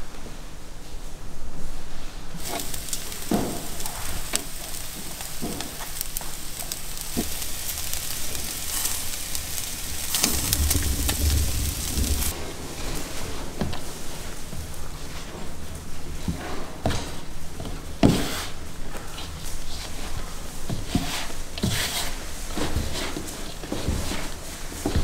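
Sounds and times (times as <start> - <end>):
fat crackling on coals: 2.4 - 25.0
meat sizzling over charcoal: 2.4 - 25.0.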